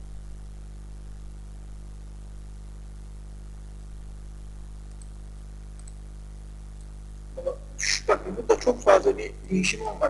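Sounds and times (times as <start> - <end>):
electrical hum with hiss: 0.0 - 10.0.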